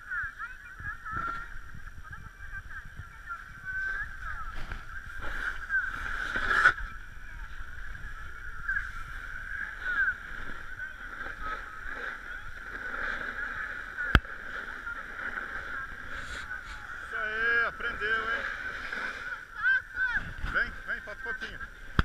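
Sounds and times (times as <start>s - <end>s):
wind rumble on camera: 0.0s - 22.0s
snowboard scraping over snow: 0.2s - 22.0s.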